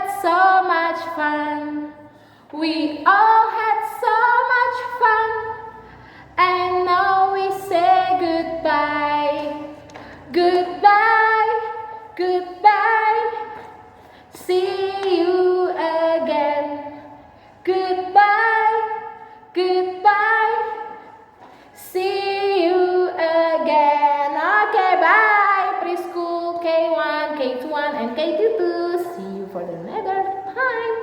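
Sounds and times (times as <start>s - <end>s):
woman singing unaccompanied: 0.0s - 21.2s, 21.8s - 31.0s.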